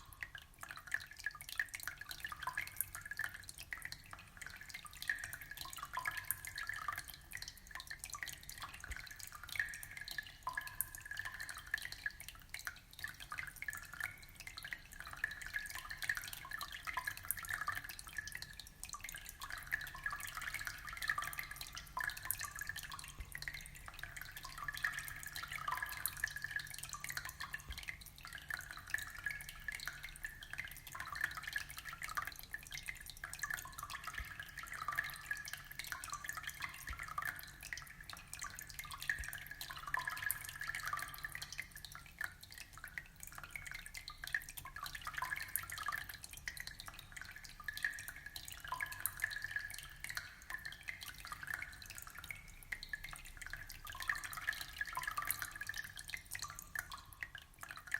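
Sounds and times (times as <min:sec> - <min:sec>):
aquarium water trickling and bubbling: 0:00.0 - 0:57.9.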